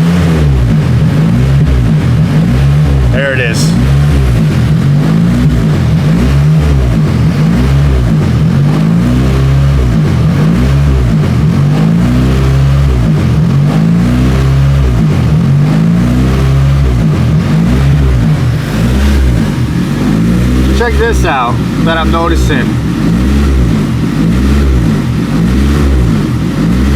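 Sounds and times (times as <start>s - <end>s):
car engine idle surging: 0.0s - 26.9s.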